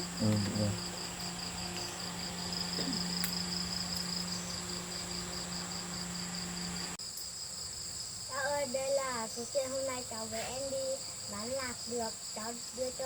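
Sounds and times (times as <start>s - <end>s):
high insect trill: 0.0s - 13.0s
insects chirping: 0.0s - 13.0s.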